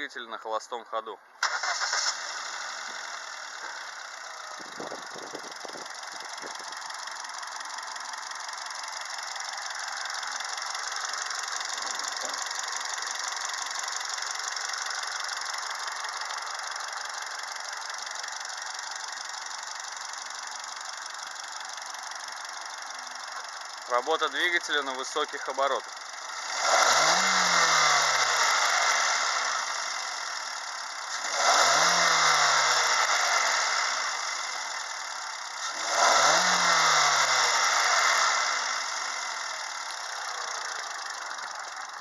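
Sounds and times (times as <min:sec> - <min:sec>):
car engine idling: 0:00.1 - 0:42.0.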